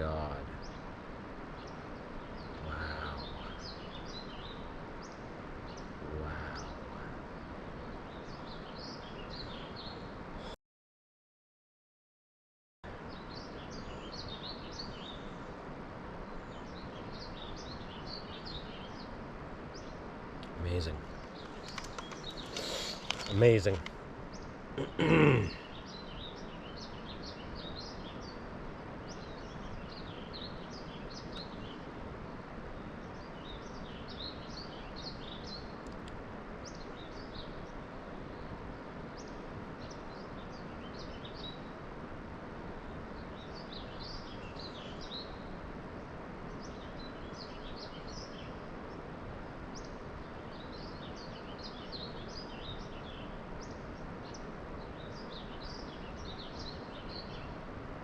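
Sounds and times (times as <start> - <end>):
outdoor background hiss: 0.0 - 10.6, 12.8 - 58.0
small birds chirping: 0.0 - 10.6, 12.9 - 58.0.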